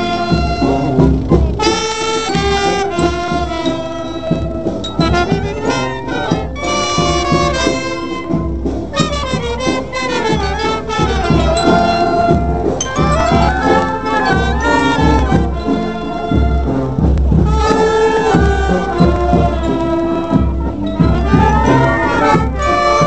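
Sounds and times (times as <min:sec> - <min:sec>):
brass music over low beat: 0:00.0 - 0:23.0.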